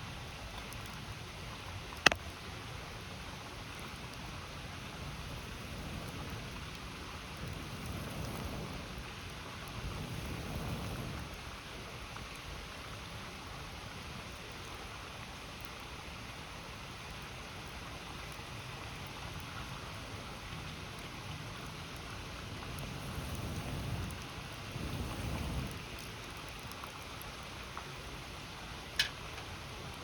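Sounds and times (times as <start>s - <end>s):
faint fire crackles: 0.0s - 30.0s.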